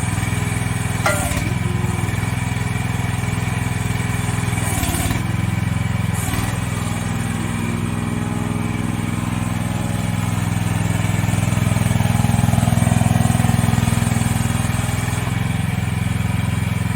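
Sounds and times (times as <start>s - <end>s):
mini excavator engine running: 0.0s - 16.9s.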